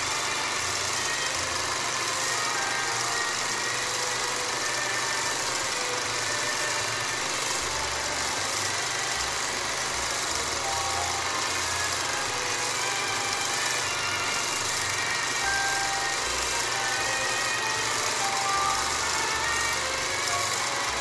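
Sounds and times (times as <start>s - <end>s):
mechanical whirr: 0.0s - 21.0s.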